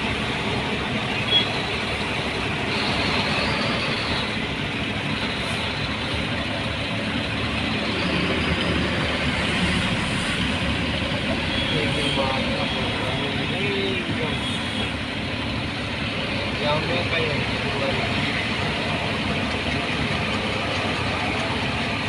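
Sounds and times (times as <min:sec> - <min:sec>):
road noise: 0:00.0 - 0:22.0
truck engine: 0:00.0 - 0:22.0.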